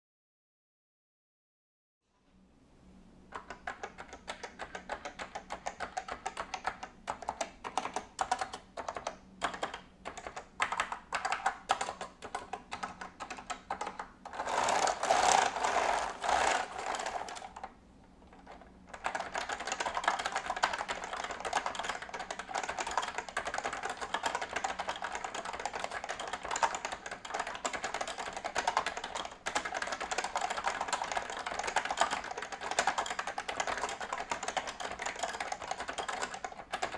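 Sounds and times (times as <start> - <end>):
keyboard typing: 3.3 - 17.7, 18.3 - 36.9.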